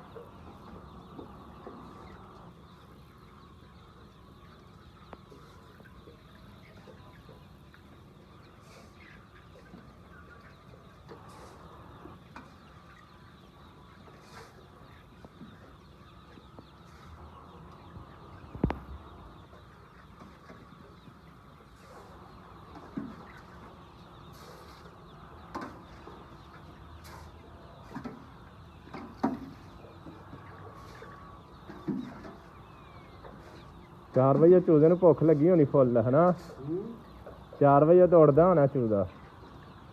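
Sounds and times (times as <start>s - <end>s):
chickens clucking: 0.0s - 39.9s
low background noise: 0.0s - 39.9s.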